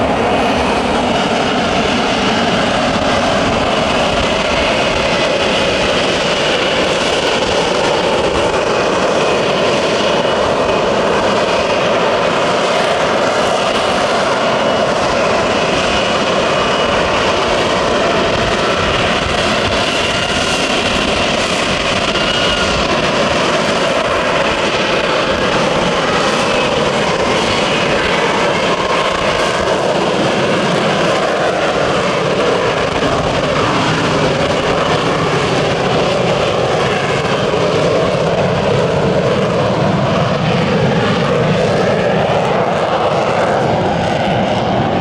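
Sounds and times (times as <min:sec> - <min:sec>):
jet engine running: 0:00.0 - 0:45.0.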